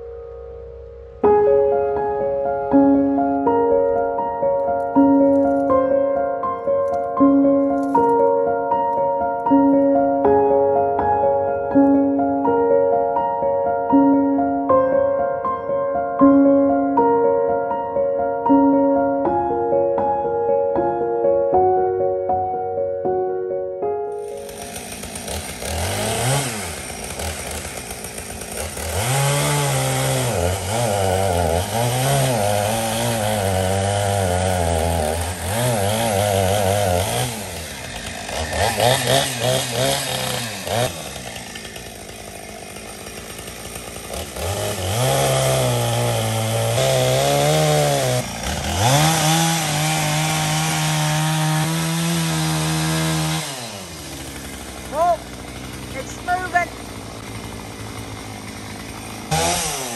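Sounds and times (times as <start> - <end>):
chainsaw revving and cutting: 1.9 - 15.6, 24.0 - 59.9.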